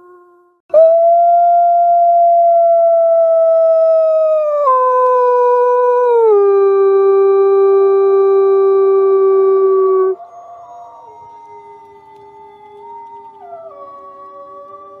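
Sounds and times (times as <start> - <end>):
wolf howling: 0.8 - 15.0.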